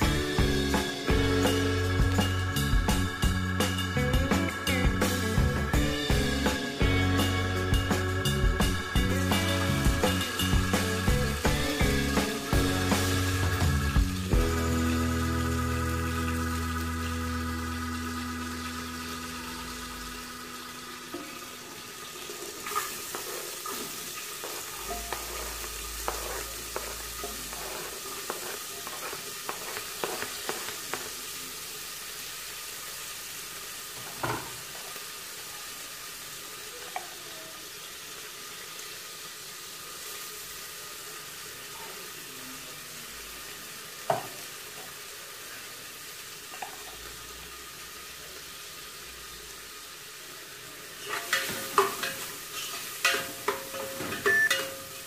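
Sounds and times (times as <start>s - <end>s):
food sizzling on a stove: 0.0s - 55.0s.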